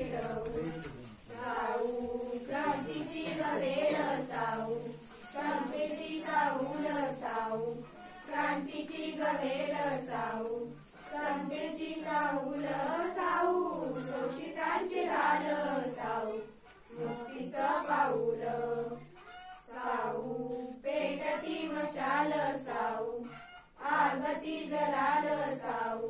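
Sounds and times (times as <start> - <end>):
girls singing without instruments: 0.0 - 26.0.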